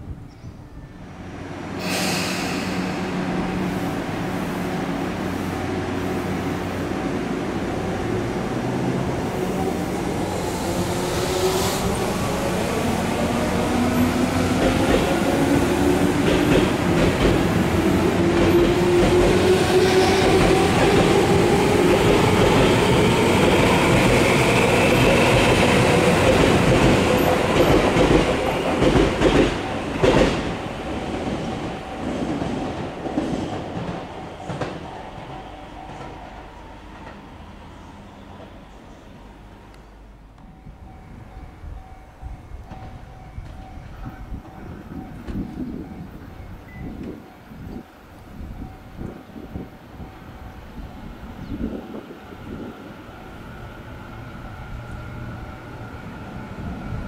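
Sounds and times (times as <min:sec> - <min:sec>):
train running noise: 0:01.8 - 0:57.0.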